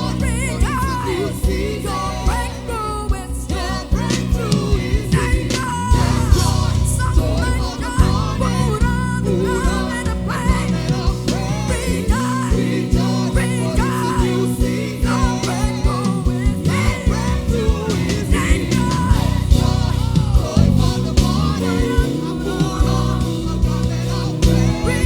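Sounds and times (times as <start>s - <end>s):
band with drum beat: 0.0s - 25.0s
low bass notes: 0.0s - 25.0s
people singing worship music: 0.0s - 25.0s.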